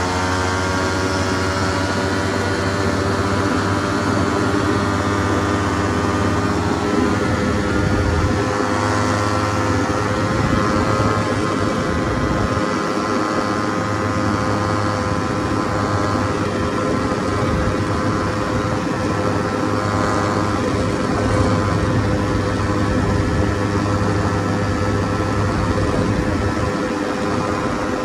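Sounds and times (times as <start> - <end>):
propeller engine droning: 0.0 - 28.0
wind rush: 1.3 - 28.0.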